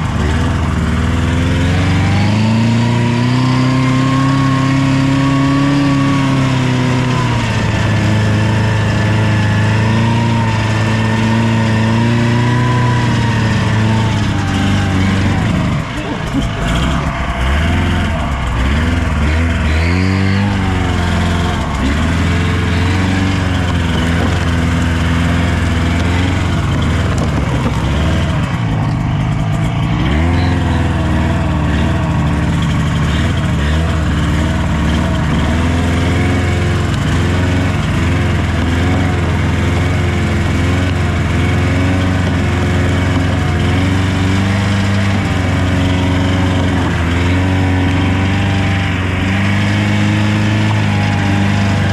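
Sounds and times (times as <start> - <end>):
car engine revving while driving: 0.0 - 51.9.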